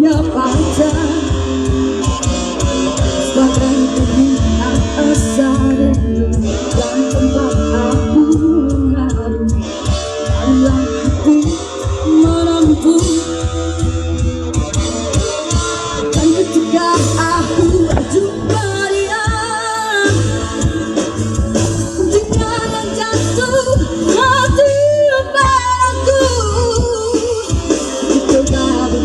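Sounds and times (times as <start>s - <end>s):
person singing: 0.0s - 13.5s, 15.0s - 29.0s
bass line and drum beat: 0.0s - 29.0s.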